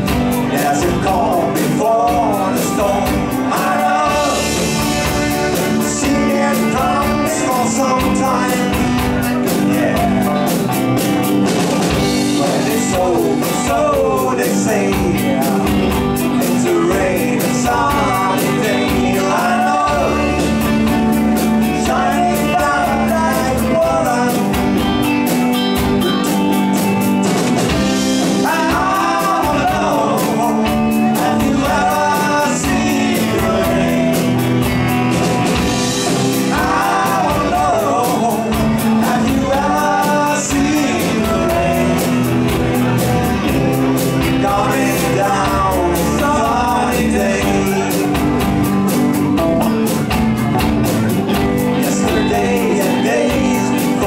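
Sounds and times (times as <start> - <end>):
bass: 0.0 - 54.0
drum kit beat: 0.0 - 54.0
electric guitar: 0.0 - 54.0
keyboards: 0.0 - 54.0
person singing: 0.3 - 10.6, 12.2 - 25.0, 28.1 - 34.8, 35.5 - 48.6, 51.7 - 54.0.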